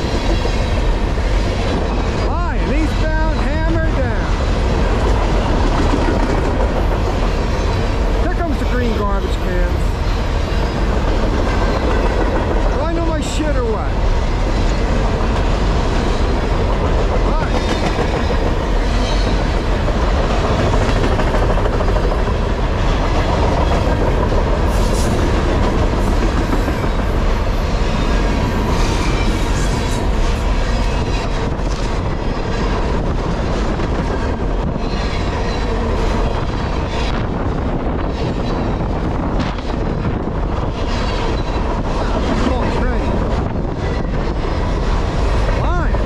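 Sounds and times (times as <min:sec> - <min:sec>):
train wheels on rails: 0:00.0 - 0:46.0.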